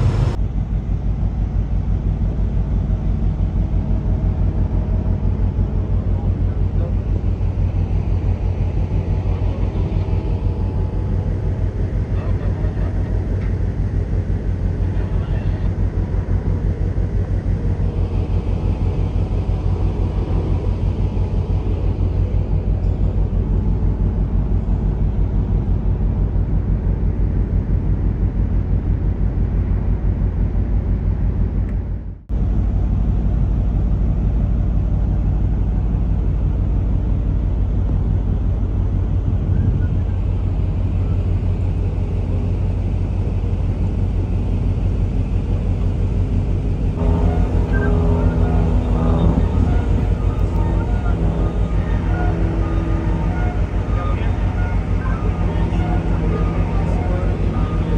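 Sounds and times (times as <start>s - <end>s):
ship machinery low rumble: 0.0s - 57.9s.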